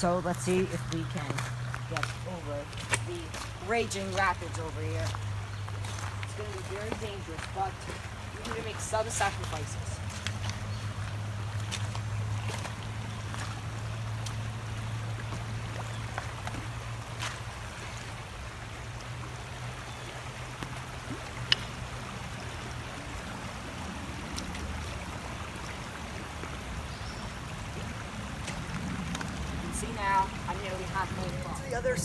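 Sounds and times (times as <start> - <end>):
creek water rushing over stones: 0.0 - 32.0.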